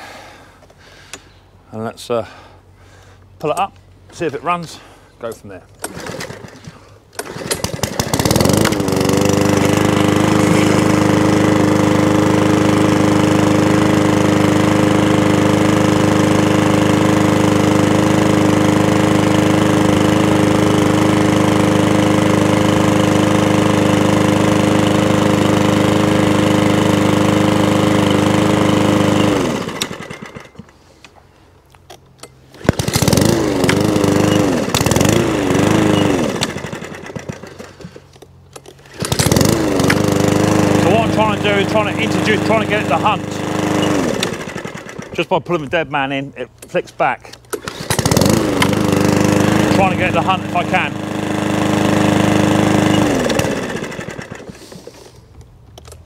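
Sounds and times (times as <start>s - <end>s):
lawn mower engine running: 2.5s - 56.0s.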